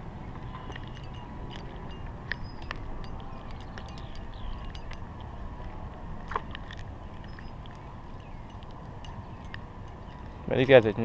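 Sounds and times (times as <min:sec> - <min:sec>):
light metallic clicks: 0:00.3 - 0:05.3, 0:06.3 - 0:11.0.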